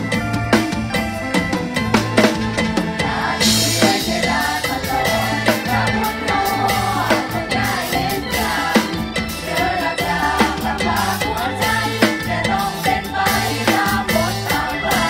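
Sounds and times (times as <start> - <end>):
band music with drum kit: 0.0 - 15.0.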